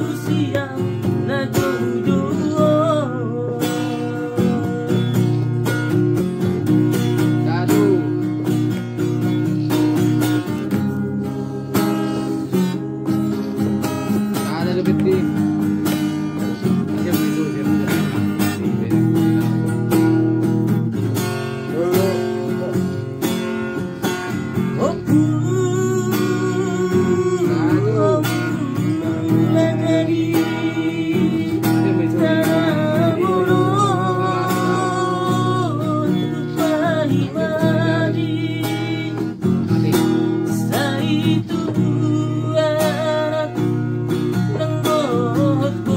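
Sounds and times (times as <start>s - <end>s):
man singing: 0.0s - 20.2s, 20.9s - 45.9s
classical guitar strumming chords: 0.0s - 45.9s.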